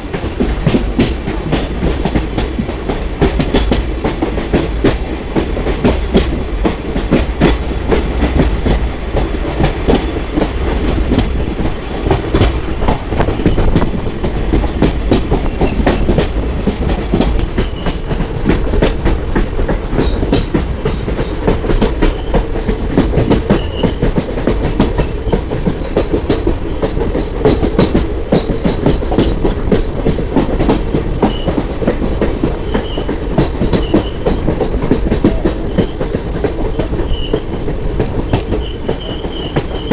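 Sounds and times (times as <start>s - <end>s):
train coaches rumbling: 0.0s - 39.9s
train wheels clickety-clack: 0.0s - 39.9s.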